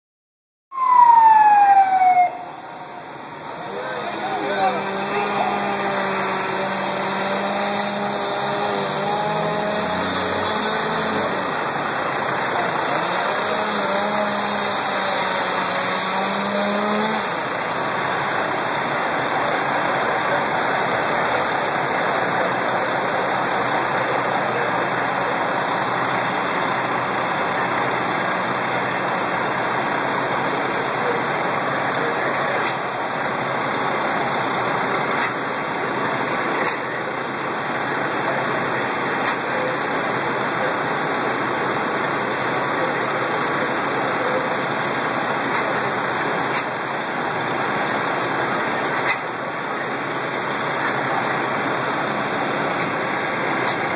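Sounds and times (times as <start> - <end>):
fire truck engines running: 0.8 - 53.9.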